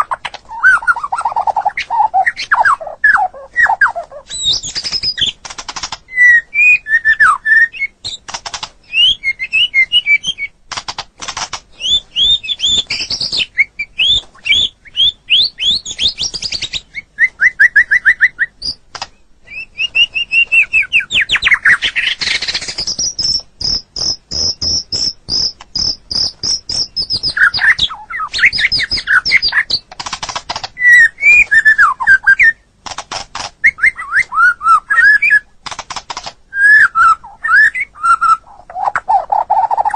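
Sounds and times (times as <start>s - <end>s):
bird singing whistled phrases: 0.0s - 5.3s, 6.1s - 8.0s, 8.8s - 10.5s, 11.8s - 18.8s, 19.5s - 29.8s, 30.8s - 32.7s, 33.6s - 35.5s, 36.5s - 39.9s
harsh clicking bird chatter: 0.0s - 39.9s.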